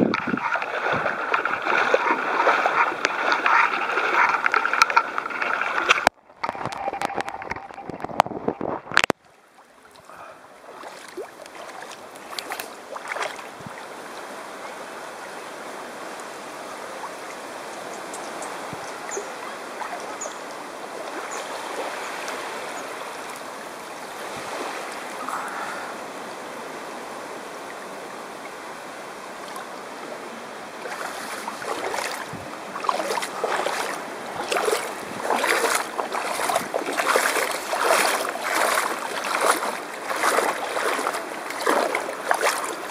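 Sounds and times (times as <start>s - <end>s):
water splashing and lapping: 0.0s - 15.2s, 16.8s - 42.9s
small waves washing on shore: 0.0s - 42.9s.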